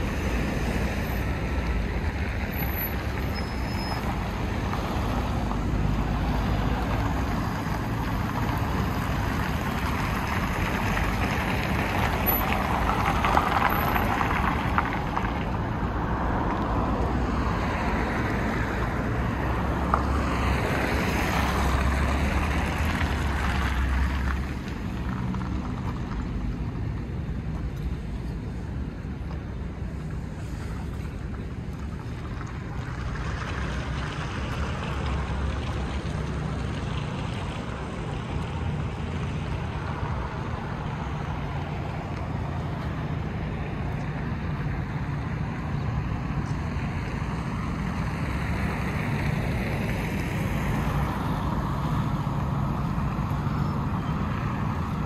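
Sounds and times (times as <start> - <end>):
passing cars: 0.0 - 55.0.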